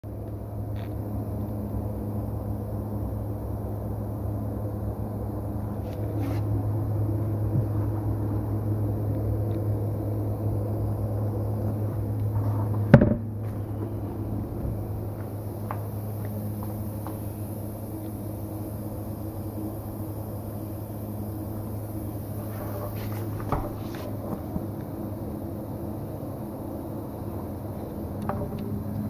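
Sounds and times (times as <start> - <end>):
low electrical machine hum: 0.0 - 29.0.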